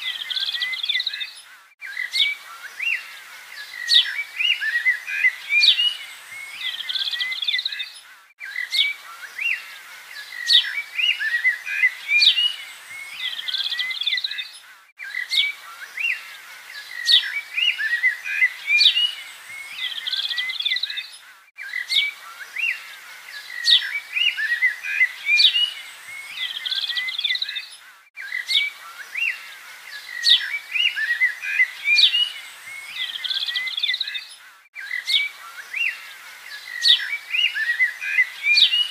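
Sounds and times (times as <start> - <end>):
birds chirping and whistling: 0.0 - 38.9.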